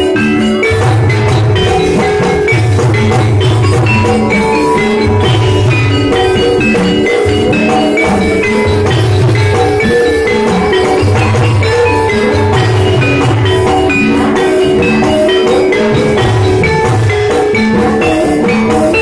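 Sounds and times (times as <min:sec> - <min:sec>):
drumming: 0:00.0 - 0:19.0
metal mallet instruments: 0:00.0 - 0:19.0.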